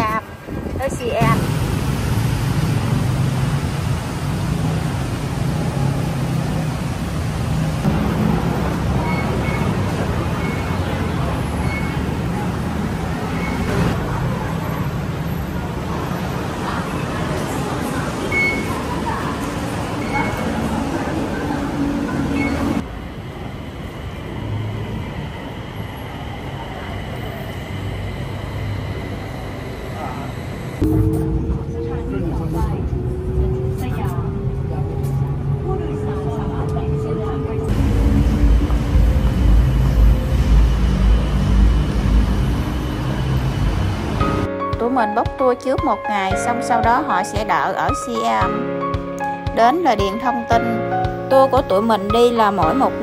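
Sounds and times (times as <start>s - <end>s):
moving vehicle rumble: 0.0s - 44.5s.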